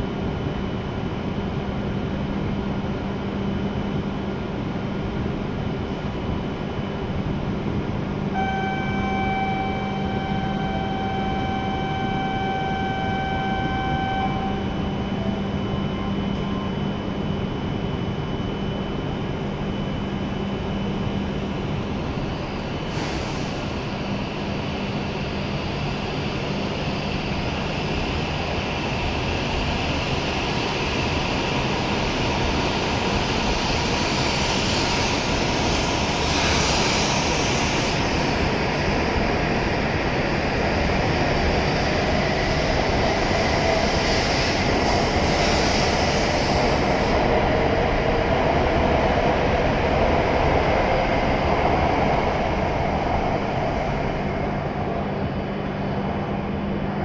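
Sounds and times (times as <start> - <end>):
train whine: 0.0 - 57.0
rush of passing train cars: 3.9 - 57.0.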